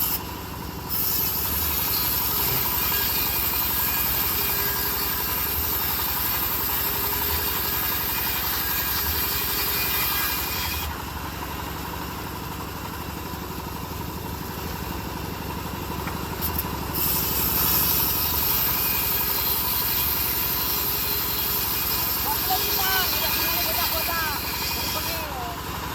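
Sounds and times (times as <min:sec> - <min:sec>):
sawmill engine throbbing: 0:00.0 - 0:25.9.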